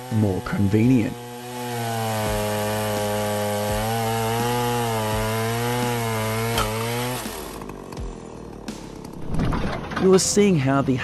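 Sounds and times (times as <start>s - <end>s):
chainsaw cutting wood: 0.0s - 9.9s.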